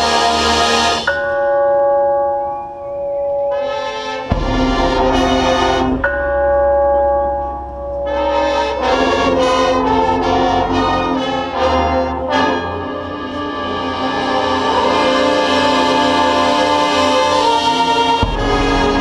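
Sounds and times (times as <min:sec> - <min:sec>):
marching band brass chords: 0:00.0 - 0:01.2, 0:03.5 - 0:19.0.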